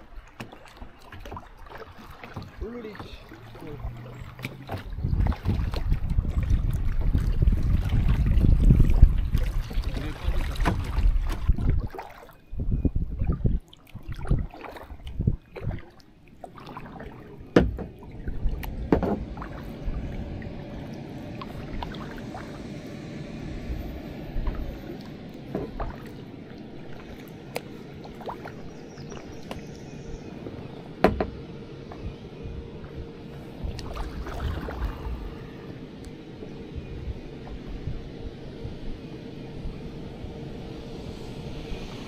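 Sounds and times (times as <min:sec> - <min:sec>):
kayak paddle dipping in water: 0:00.0 - 0:22.6, 0:24.3 - 0:36.2
moving river water: 0:00.0 - 0:42.0.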